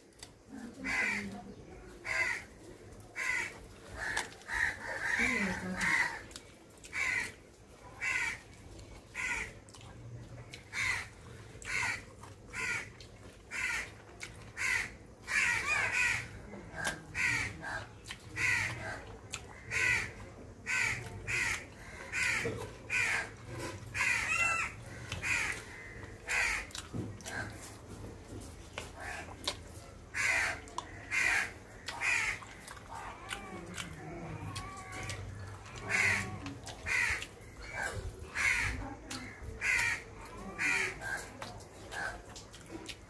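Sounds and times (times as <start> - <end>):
crows cawing: 0.6 - 2.6, 3.2 - 9.6, 10.7 - 27.7, 29.0 - 29.4, 30.1 - 42.2.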